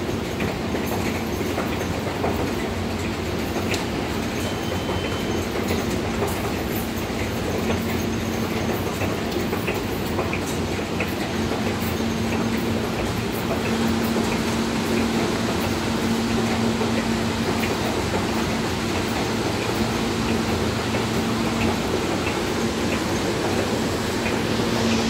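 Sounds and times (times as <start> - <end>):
subway train equipment humming: 0.0 - 25.0.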